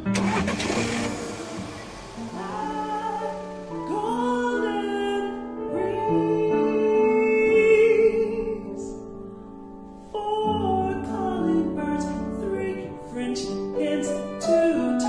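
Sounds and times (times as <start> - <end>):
music: 0.0 - 15.0
woman singing long held notes: 1.5 - 9.0, 10.1 - 15.0.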